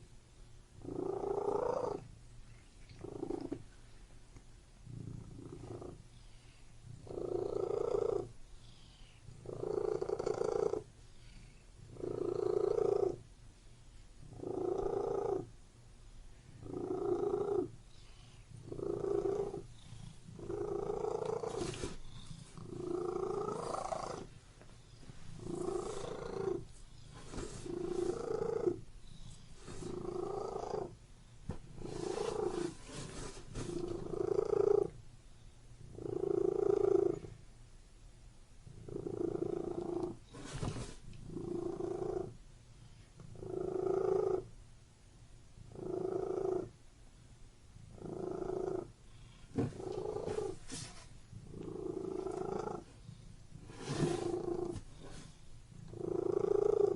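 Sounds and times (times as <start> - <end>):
cat purring: 0.8 - 13.3, 14.2 - 15.6, 16.4 - 35.0, 35.8 - 37.4, 38.6 - 44.6, 45.6 - 46.8, 47.7 - 56.9.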